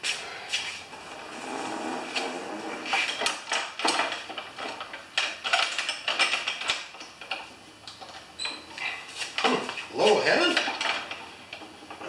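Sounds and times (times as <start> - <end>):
lawn mower wheels clicking and rattling: 0.9 - 12.0.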